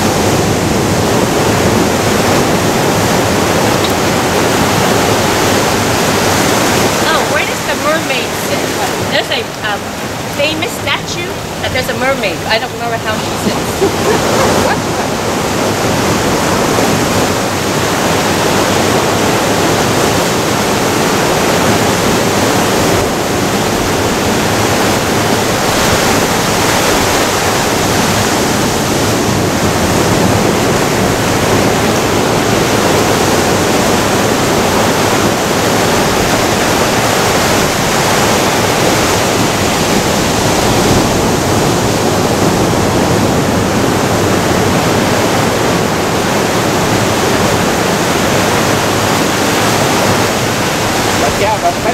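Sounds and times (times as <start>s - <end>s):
surf breaking on rocky shore: 0.0s - 51.9s.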